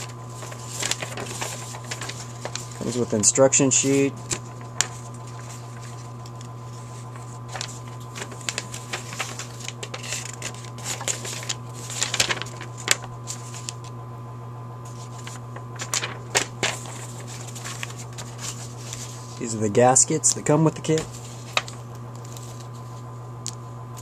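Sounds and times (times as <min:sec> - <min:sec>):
paper rustling: 0:00.0 - 0:13.9, 0:14.8 - 0:23.0
steady low hum: 0:00.0 - 0:24.0.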